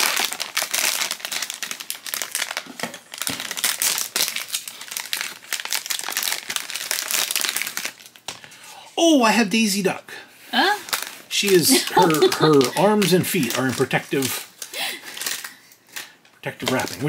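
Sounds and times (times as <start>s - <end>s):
foil bag tearing: 0.0s - 8.2s, 10.8s - 17.0s
foil bag crinkling: 0.0s - 8.5s, 10.8s - 17.0s.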